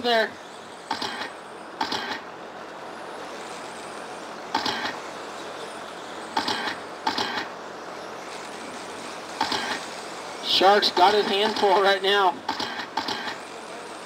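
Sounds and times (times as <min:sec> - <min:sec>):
background hum: 0:00.0 - 0:14.0
rc trucks passing: 0:00.0 - 0:14.0.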